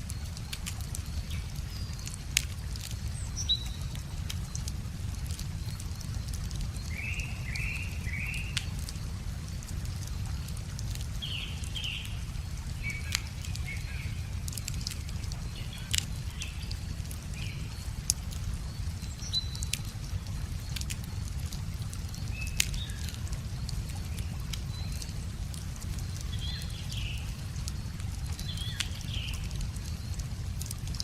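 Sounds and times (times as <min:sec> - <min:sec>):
wood fire crackling: 0:00.0 - 0:31.0
birdsong chirping: 0:00.1 - 0:21.1, 0:21.8 - 0:30.7.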